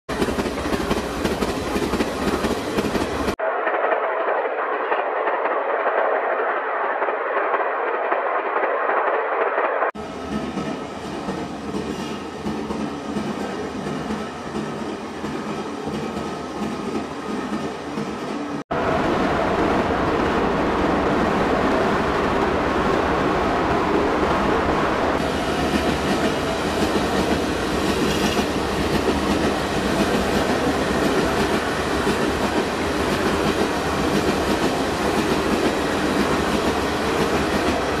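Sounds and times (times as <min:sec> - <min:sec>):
train running on rails: 0:00.1 - 0:38.0.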